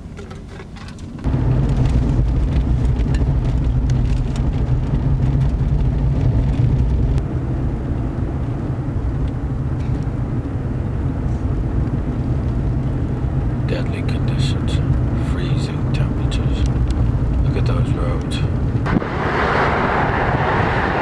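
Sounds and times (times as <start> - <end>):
car driving rumble from cabin: 0.0 - 21.0.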